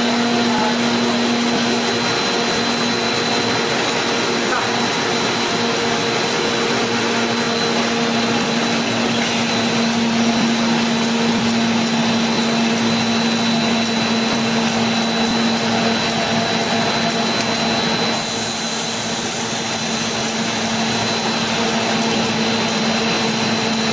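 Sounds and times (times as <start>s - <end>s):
machine high whine: 0.0s - 23.9s
machine low hum: 0.0s - 23.9s.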